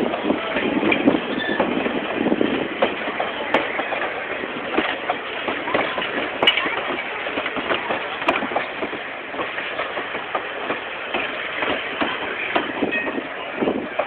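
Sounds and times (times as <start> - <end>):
train rolling along track: 0.0 - 14.0
wheels rattling and clacking: 0.0 - 14.0.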